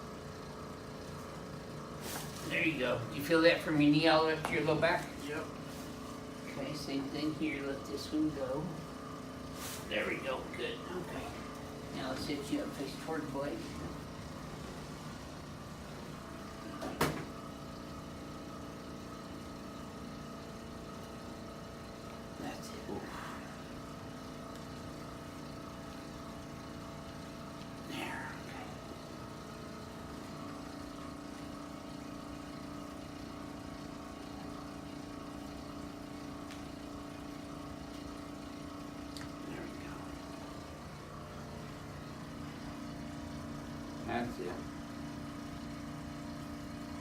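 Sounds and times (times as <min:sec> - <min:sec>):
machine hum: 0:00.0 - 0:47.0.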